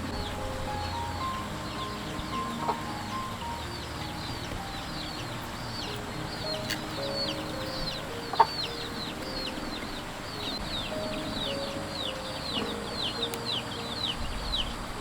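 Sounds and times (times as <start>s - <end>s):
chicks peeping: 0.0s - 15.0s
soft background music: 0.0s - 15.0s.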